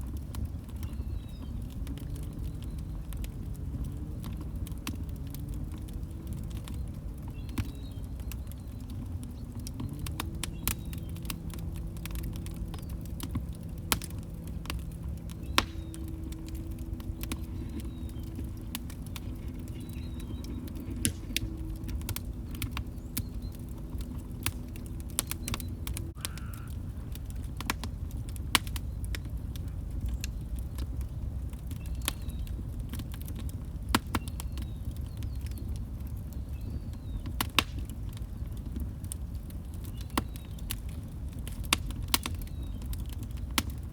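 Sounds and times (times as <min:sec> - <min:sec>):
log fire crackling and popping: 0:00.0 - 0:43.9.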